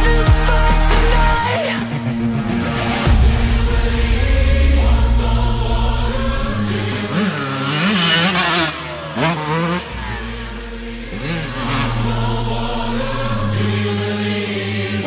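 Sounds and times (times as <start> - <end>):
background music: 0.0 - 15.0
dirt bike engine revving: 0.0 - 15.0.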